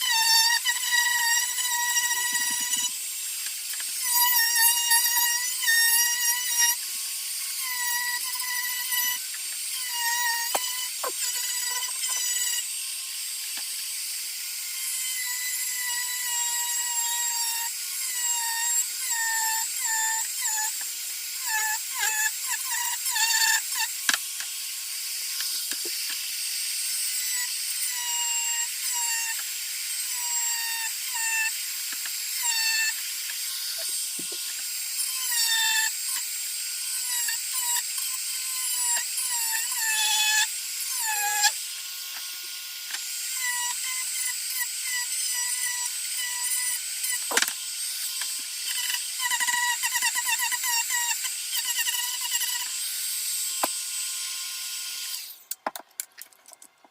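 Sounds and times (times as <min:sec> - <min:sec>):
rotary tool whining carving wood: 0:00.0 - 0:55.8.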